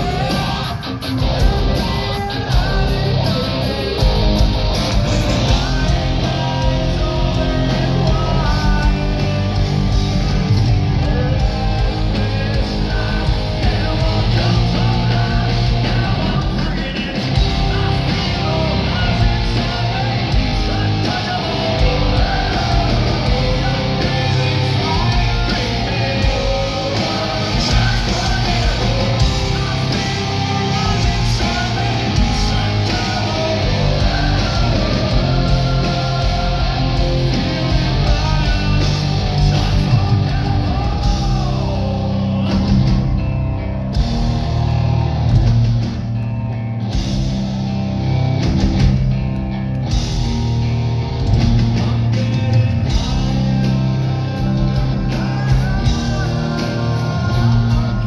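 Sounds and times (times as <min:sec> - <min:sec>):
man singing and shouting: 0:00.0 - 0:43.2, 0:51.7 - 0:58.0
hard rock band playing: 0:00.0 - 0:58.0.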